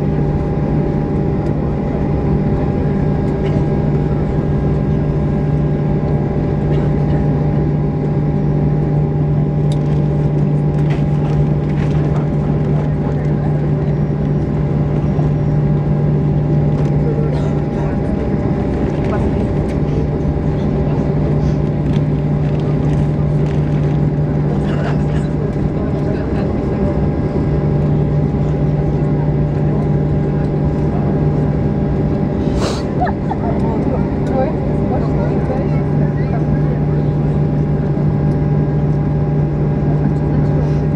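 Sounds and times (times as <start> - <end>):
aircraft cabin low hum: 0.0 - 40.9.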